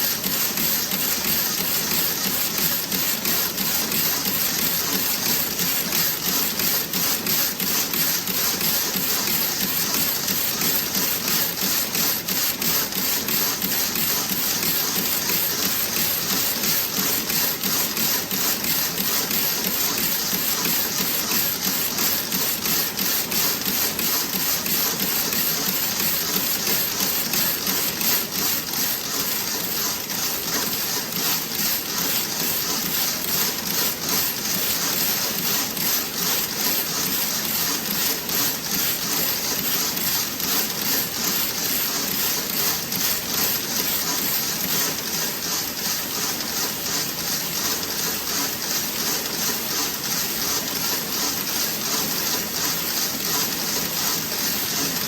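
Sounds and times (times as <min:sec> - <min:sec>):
knitting machine clattering: 0:00.0 - 0:55.0.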